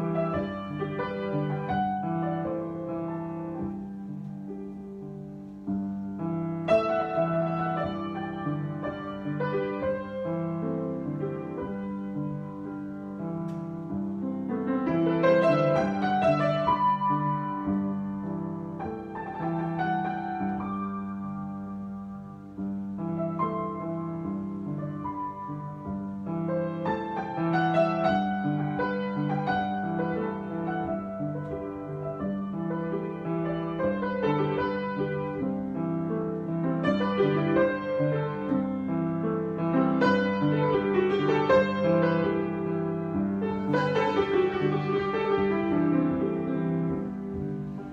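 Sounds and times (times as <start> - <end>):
solo piano chords: 0.0 - 47.9.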